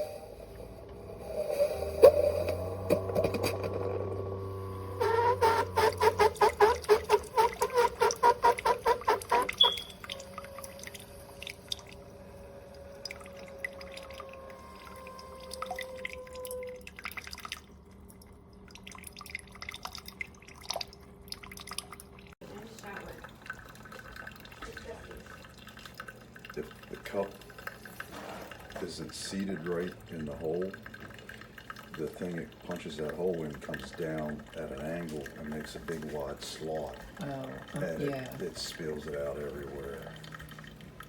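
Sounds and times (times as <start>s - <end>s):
coffee maker pump pulsing: 0.0s - 16.8s, 22.5s - 41.0s
faint gurgling and dripping: 0.0s - 41.0s.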